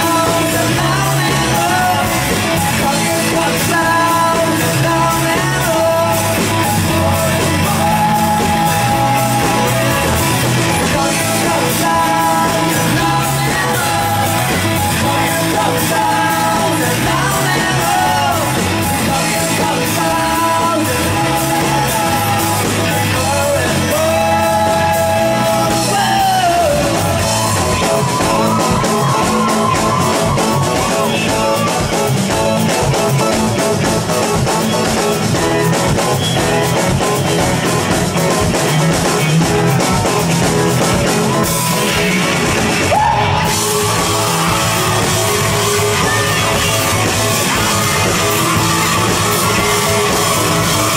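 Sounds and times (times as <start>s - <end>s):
person singing lead vocal: 0.0s - 50.9s
rock band playing live: 0.0s - 50.9s.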